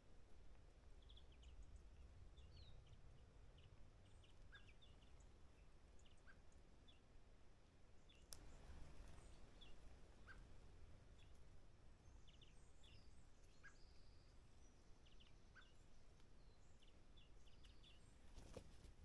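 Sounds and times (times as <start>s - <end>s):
faint bird chirps: 1.0s - 7.1s, 8.0s - 19.0s.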